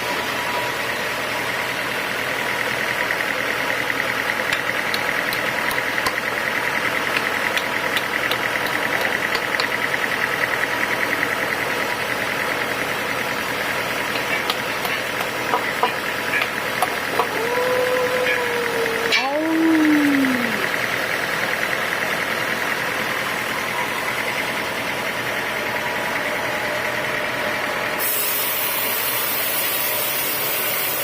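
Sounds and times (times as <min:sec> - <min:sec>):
sawmill machinery pulsing: 0:00.0 - 0:31.0.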